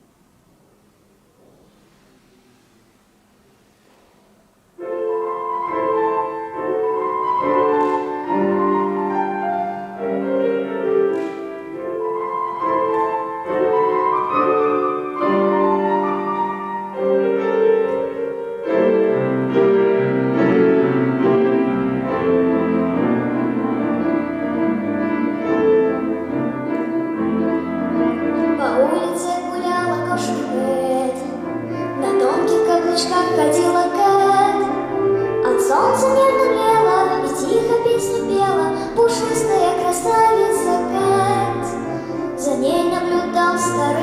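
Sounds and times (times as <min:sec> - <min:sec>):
keyboard melody and chords: 0:04.8 - 0:44.0.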